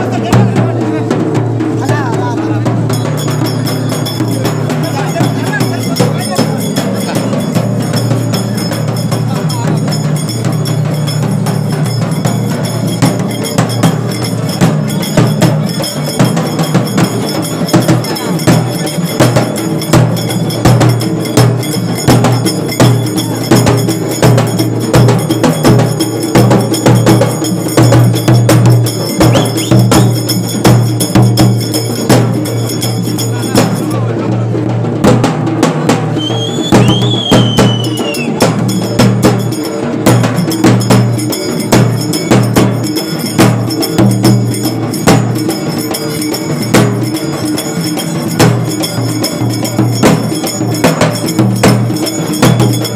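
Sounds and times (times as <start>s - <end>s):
crowd voices: 0.0s - 52.9s
frame drums beaten fast: 0.0s - 52.9s
large metal drum beaten with sticks: 0.0s - 52.9s.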